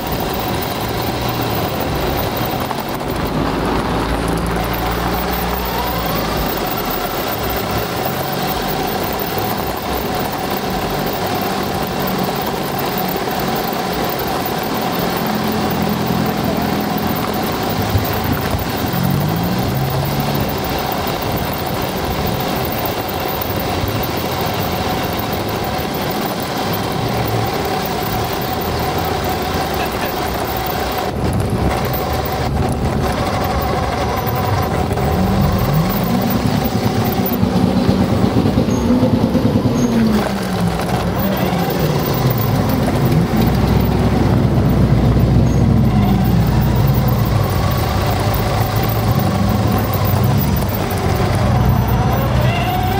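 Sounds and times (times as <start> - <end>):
car engine revving: 0.0 - 52.9
car engines running: 0.0 - 52.9.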